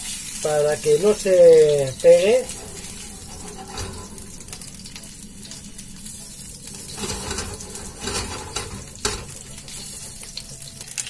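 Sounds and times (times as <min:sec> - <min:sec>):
fish sizzling in frying pan: 0:00.0 - 0:03.3, 0:04.1 - 0:08.0, 0:08.8 - 0:11.0.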